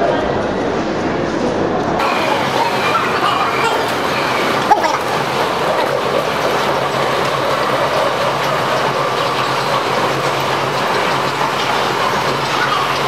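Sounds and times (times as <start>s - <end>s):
moving walkway rumbling: 0.0s - 13.0s.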